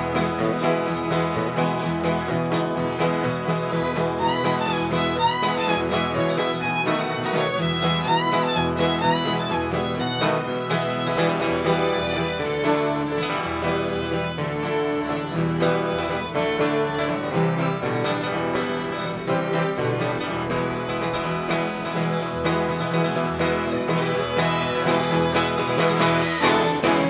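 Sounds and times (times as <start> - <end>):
cello bass line: 0.0 - 27.0
fiddles playing: 0.0 - 27.0
strummed acoustic guitar: 0.0 - 27.0.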